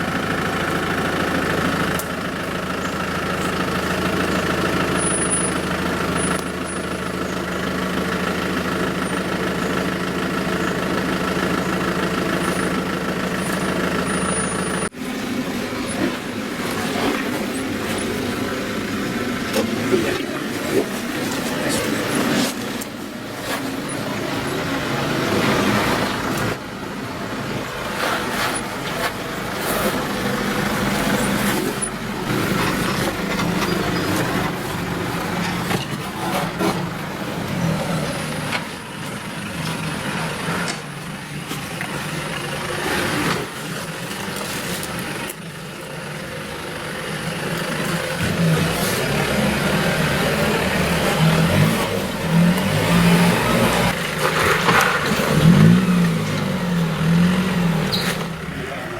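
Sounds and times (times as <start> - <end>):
engine running at low revs: 0.0 - 58.9.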